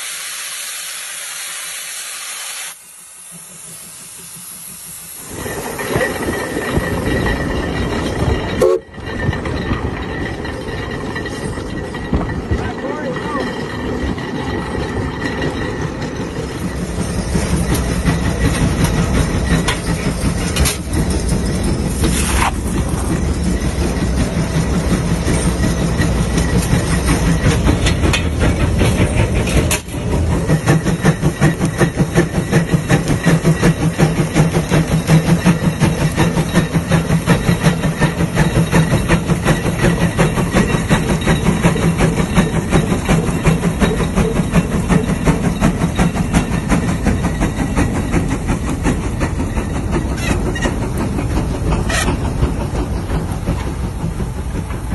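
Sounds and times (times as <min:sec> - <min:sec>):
diesel engine chugging: 0:03.4 - 0:54.9.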